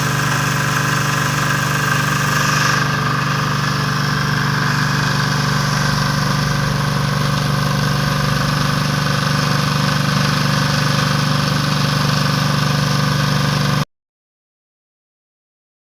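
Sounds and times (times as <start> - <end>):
diesel generator running: 0.0 - 13.8.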